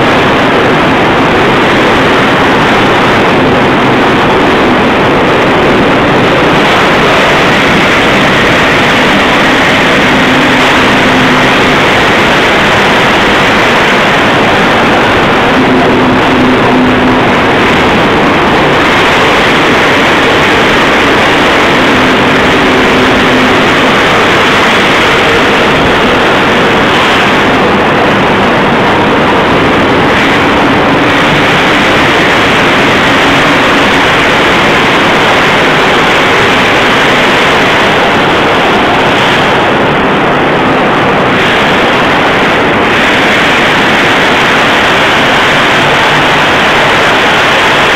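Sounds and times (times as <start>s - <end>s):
faint hum: 0.0s - 47.9s
rolling mill machinery din: 0.0s - 47.9s.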